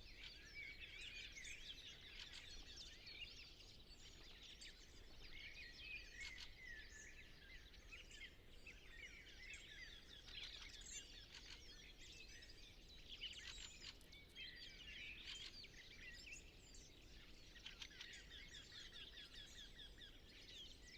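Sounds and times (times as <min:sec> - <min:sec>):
songbirds chirping and twittering: 0:00.0 - 0:20.9.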